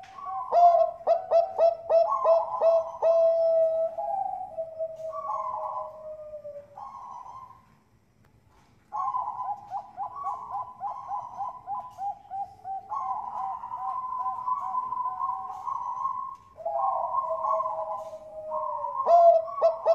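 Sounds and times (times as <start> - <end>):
dove cooing: 0.0 - 7.8, 8.9 - 19.9.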